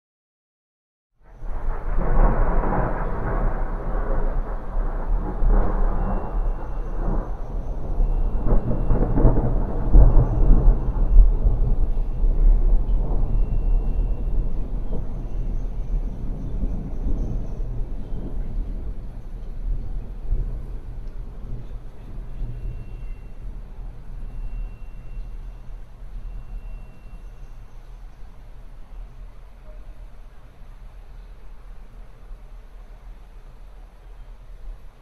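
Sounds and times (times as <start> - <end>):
rolling thunder: 1.3 - 29.5.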